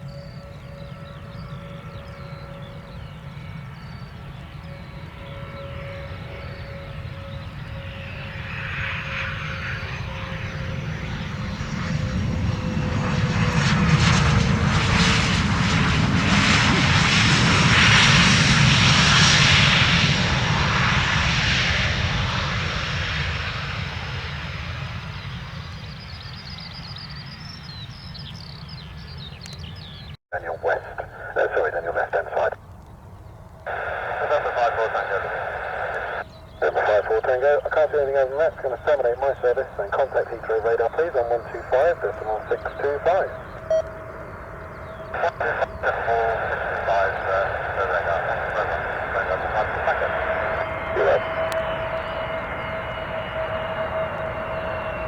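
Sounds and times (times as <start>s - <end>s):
high engine whine: 0.0s - 27.7s, 30.4s - 55.0s
jet aircraft passing: 0.0s - 55.0s.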